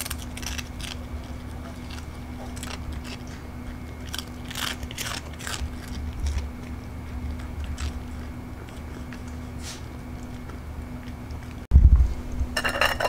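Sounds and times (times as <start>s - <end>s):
dog crunching treat: 0.0s - 11.7s.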